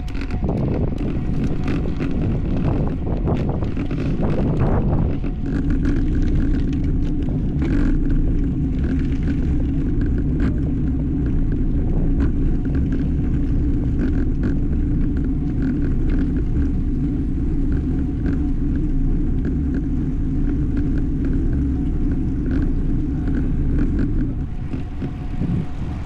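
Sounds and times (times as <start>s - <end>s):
bicycle road rumble: 0.0s - 26.0s
wind on microphone: 0.0s - 26.0s.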